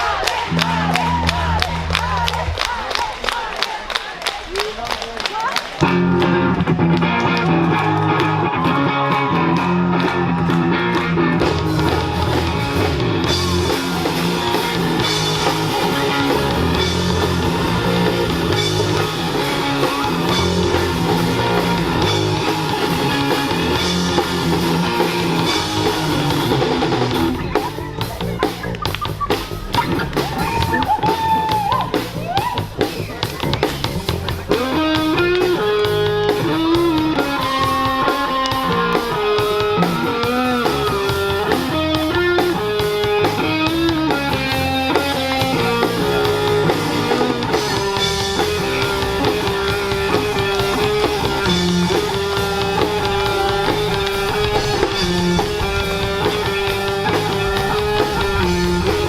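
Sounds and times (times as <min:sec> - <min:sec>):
guitar and bass: 0:00.0 - 0:03.3, 0:05.8 - 0:59.0
drum kit playing fast beat: 0:00.0 - 0:59.0.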